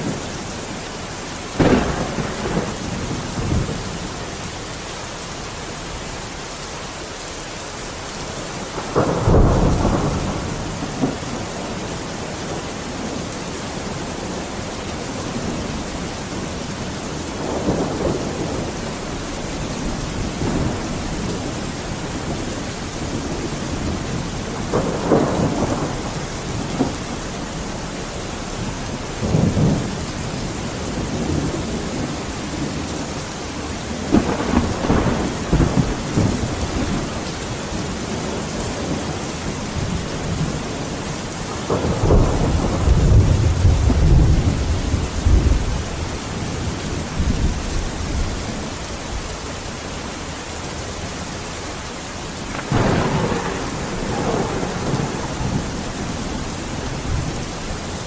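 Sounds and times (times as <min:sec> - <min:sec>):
thunder rumbling: 0:00.0 - 0:06.2, 0:08.5 - 0:48.8, 0:52.4 - 0:58.0
heavy rain hissing: 0:00.0 - 0:58.0.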